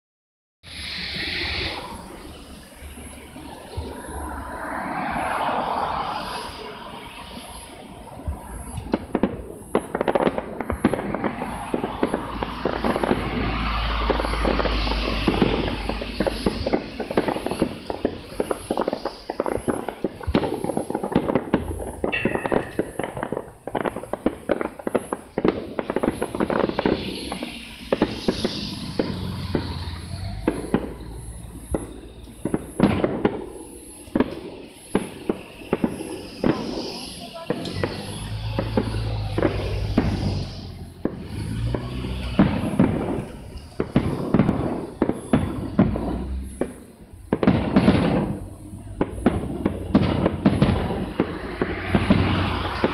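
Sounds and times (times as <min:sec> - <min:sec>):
fireworks bangs and crackles: 0:00.6 - 0:52.9.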